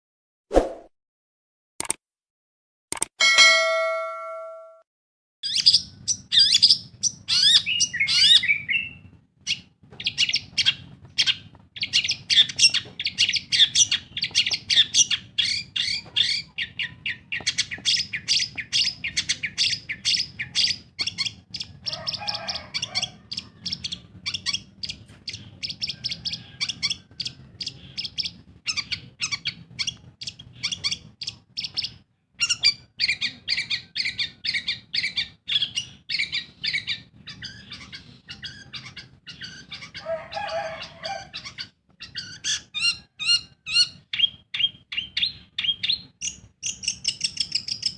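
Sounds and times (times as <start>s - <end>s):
bird singing rapid chirps: 5.4s - 47.9s.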